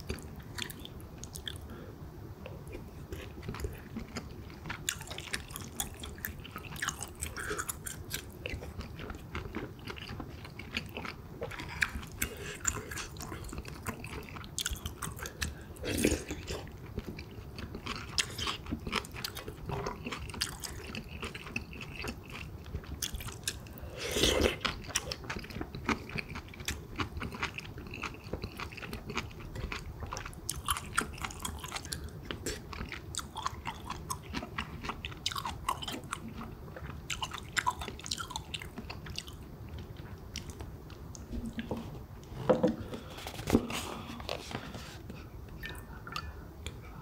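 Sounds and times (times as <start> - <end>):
wet chewing sounds: 2.4 - 41.9.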